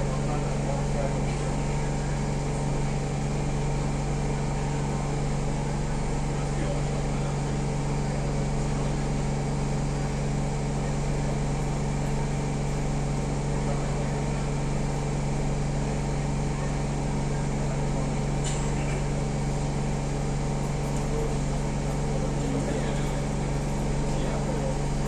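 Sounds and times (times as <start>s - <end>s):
train equipment humming: 0.0s - 25.0s.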